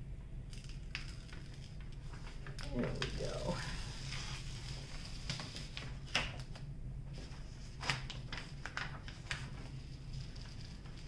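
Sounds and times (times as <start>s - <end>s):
faint steady hum: 0.0s - 11.0s
paper crinkling and crackling: 0.5s - 11.0s.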